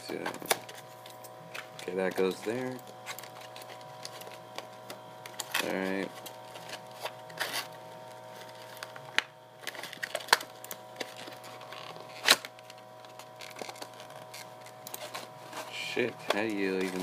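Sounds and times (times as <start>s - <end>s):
faint steady hum: 0.0s - 17.0s
packaging crackling and clicking: 0.2s - 17.0s.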